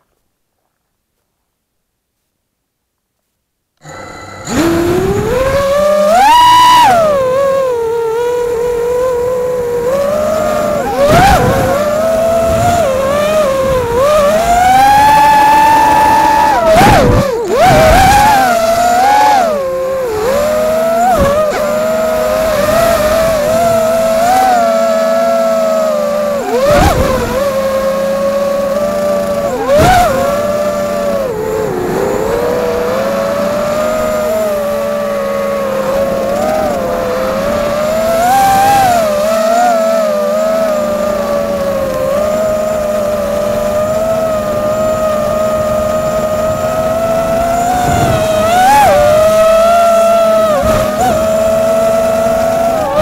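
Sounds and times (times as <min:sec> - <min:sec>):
drone propellers whining: 0:03.8 - 0:53.0.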